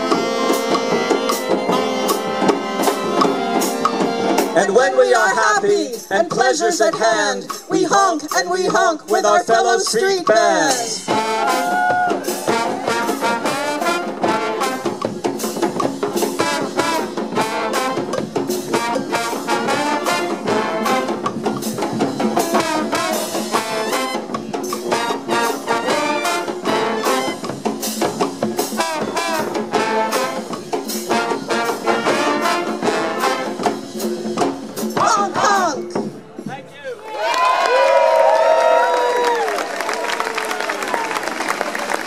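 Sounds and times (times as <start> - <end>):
brass band playing: 0.0 - 36.8.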